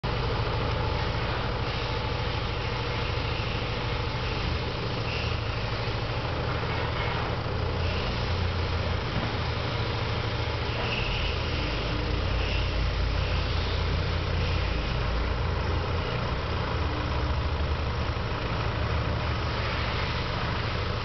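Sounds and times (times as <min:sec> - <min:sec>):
engine running at low revs: 0:00.0 - 0:21.0.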